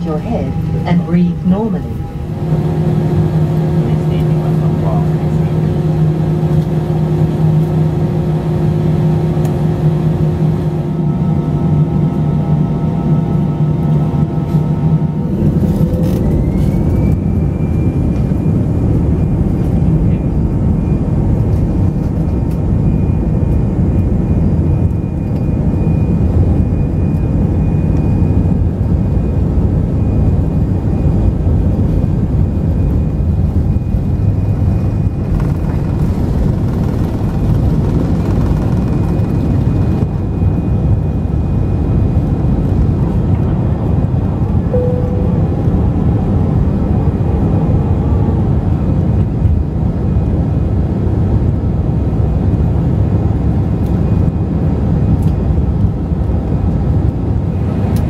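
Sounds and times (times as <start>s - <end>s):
jet engine roar and whine: 0.0s - 58.0s
wheels rumbling on runway: 0.0s - 58.0s.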